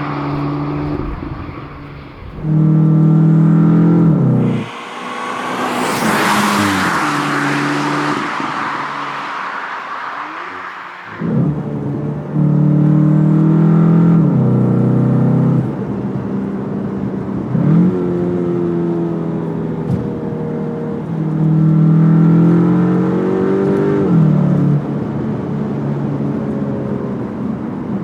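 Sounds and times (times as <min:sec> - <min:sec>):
car engine accelerating hard: 0:00.0 - 0:28.0.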